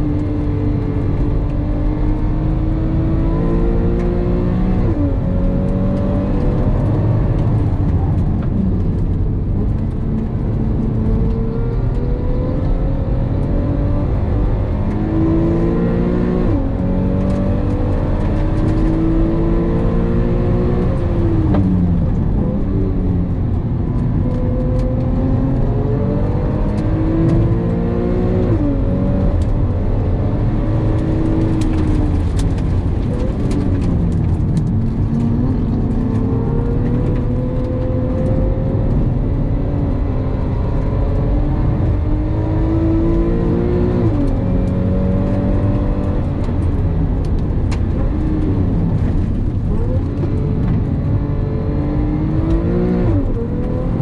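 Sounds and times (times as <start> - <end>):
car engine revving through gears: 0.0 - 54.0
tyre and road noise: 0.0 - 54.0.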